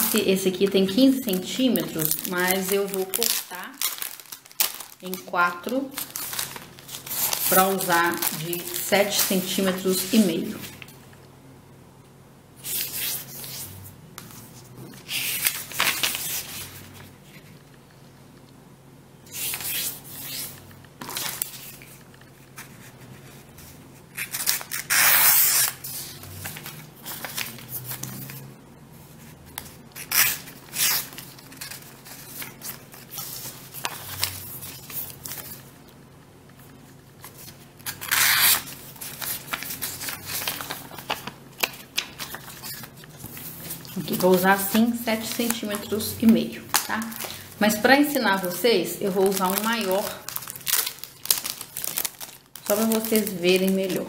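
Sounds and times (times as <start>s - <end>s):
paper handling: 0.9s - 11.0s, 12.6s - 17.7s, 19.4s - 28.4s, 29.6s - 35.7s, 36.5s - 54.0s.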